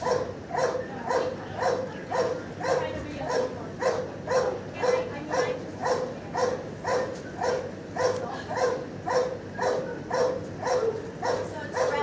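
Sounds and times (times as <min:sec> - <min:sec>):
dog barking: 0:00.0 - 0:12.0.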